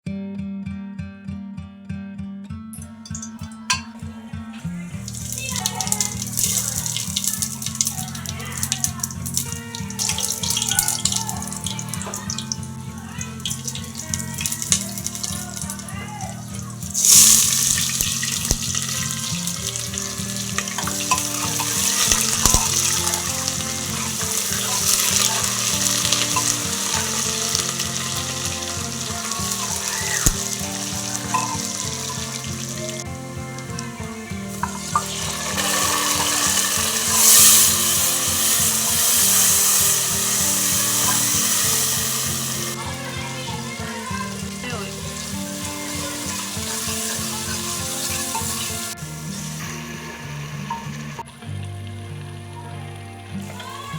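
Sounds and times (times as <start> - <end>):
background music with held notes: 0.0 - 53.9
steady hiss: 4.6 - 52.2.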